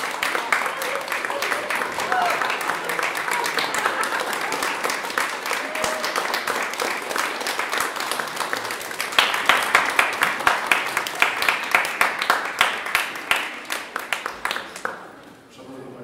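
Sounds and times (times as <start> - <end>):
audience applauding: 0.0 - 15.3
loud evenly paced claps: 0.0 - 15.4.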